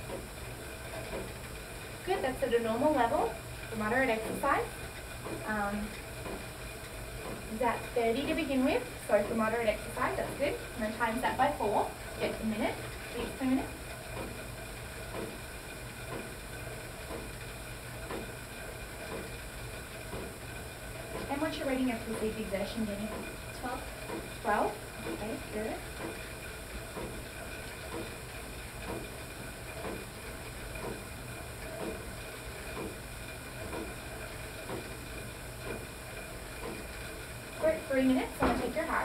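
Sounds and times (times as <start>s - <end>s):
exercise bike flywheel whirring: 0.0s - 39.0s.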